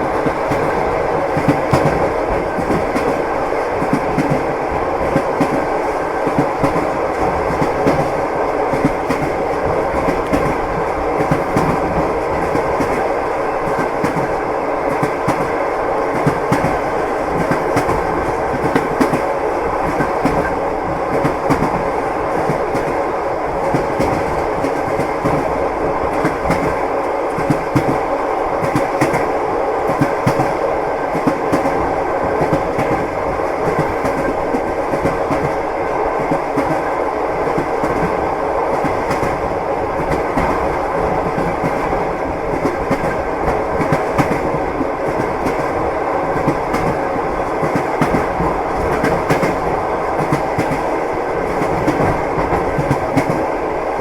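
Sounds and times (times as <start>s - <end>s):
train wheels clacking: 0.0s - 53.6s
train running rumble: 0.0s - 54.0s.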